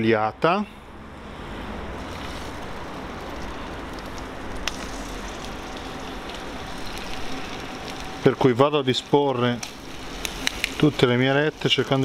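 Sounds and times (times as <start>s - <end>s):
chicken wings sizzling in skillet: 1.8s - 12.0s.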